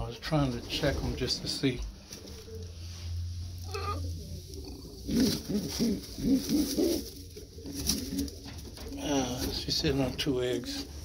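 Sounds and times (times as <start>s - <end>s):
pigeons cooing: 0.5s - 11.0s
rustling of straw: 0.5s - 11.0s.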